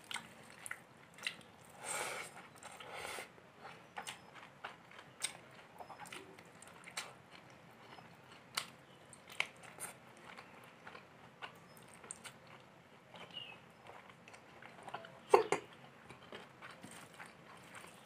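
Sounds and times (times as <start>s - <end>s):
wet chewing: 0.0s - 3.0s, 3.6s - 18.0s.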